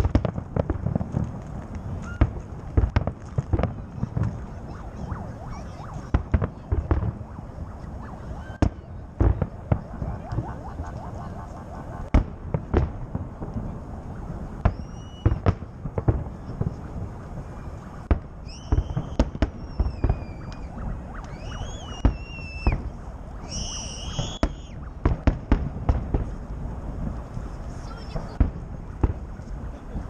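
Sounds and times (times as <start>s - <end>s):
firework bangs and crackles: 0.0s - 30.0s
firework whistles: 1.7s - 12.9s, 13.5s - 25.6s, 27.4s - 28.4s.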